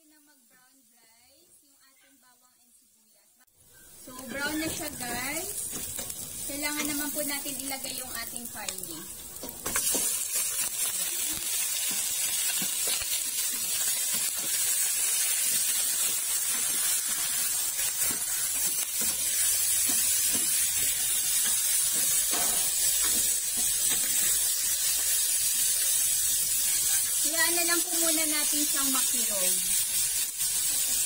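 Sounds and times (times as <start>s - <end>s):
meat sizzling in hot oil: 0.0s - 31.0s.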